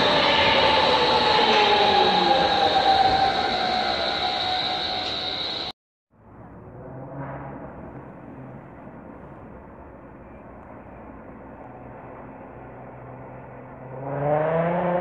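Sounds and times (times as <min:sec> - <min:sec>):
commuter train running hum: 0:00.0 - 0:06.9, 0:07.6 - 0:13.9.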